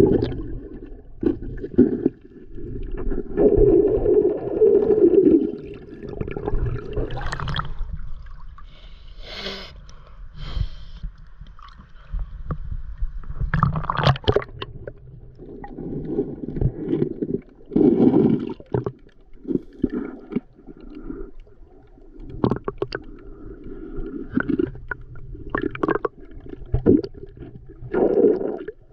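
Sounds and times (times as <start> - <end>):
stream water sloshing and gurgling: 0.0 - 8.7, 13.3 - 28.9.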